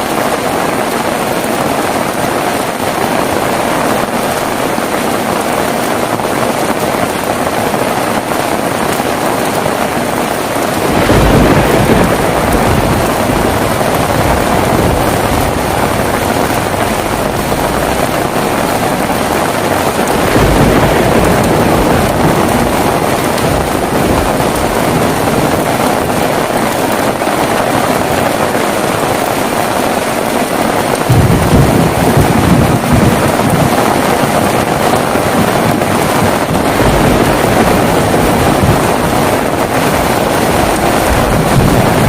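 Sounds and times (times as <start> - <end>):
heavy rain pouring: 0.0 - 42.0
low thunder rumble: 2.5 - 42.0.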